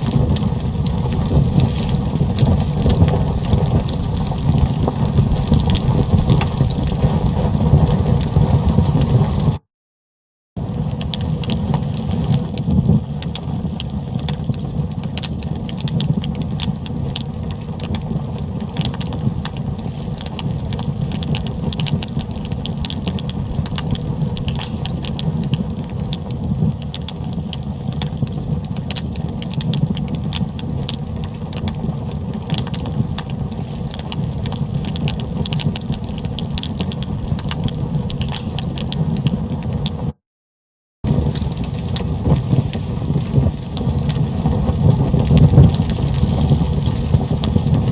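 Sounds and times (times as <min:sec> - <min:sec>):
fire crackling: 0:00.0 - 0:09.6, 0:10.6 - 0:40.2, 0:41.0 - 0:47.9.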